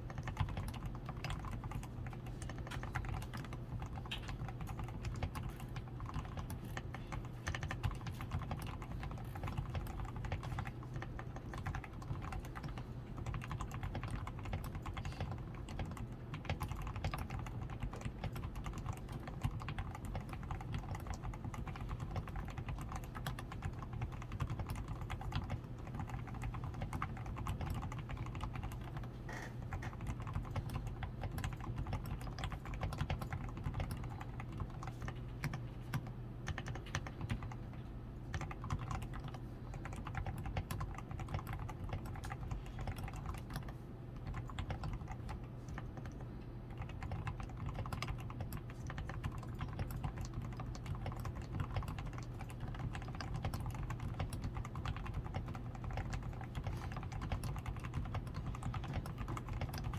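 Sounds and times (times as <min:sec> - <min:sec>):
low steady hum: 0:00.0 - 0:59.9
mechanical keyboard typing: 0:00.0 - 0:59.9.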